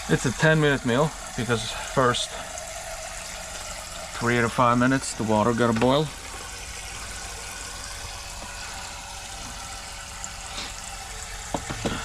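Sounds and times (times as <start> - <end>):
tap water filling a pot: 0.0 - 12.0.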